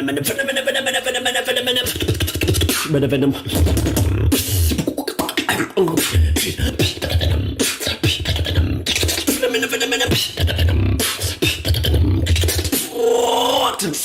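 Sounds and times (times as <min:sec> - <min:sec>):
human beatboxing: 0:00.0 - 0:14.0.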